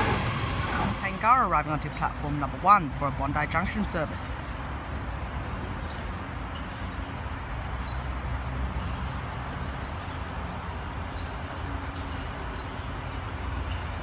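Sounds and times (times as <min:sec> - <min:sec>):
distant electric train rumbling: 0:00.0 - 0:14.0.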